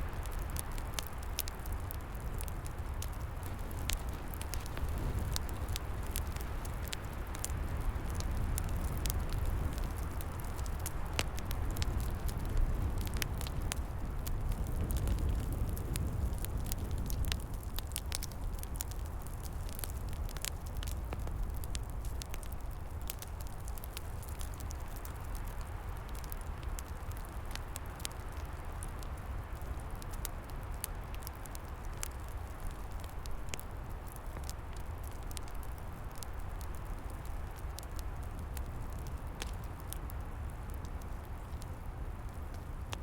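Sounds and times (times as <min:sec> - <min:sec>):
low rumble of wind: 0:00.0 - 0:43.0
wood fire crackling and popping: 0:00.0 - 0:43.0.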